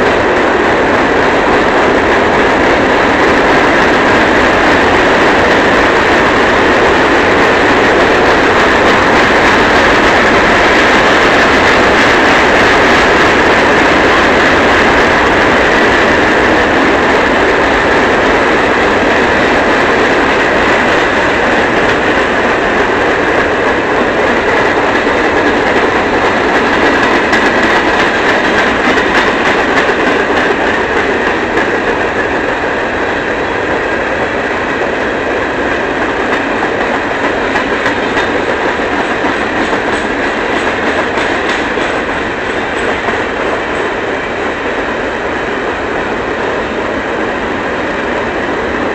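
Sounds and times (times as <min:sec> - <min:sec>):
railcars rolling past: 0:00.0 - 0:48.9.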